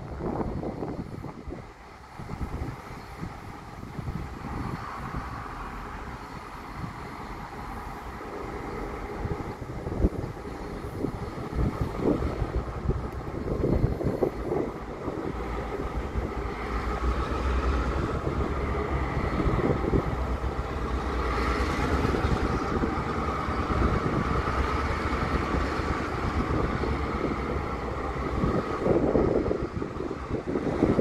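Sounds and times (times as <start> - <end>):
diesel locomotive engine drone: 0.0 - 31.0
wind buffeting microphone: 0.0 - 31.0.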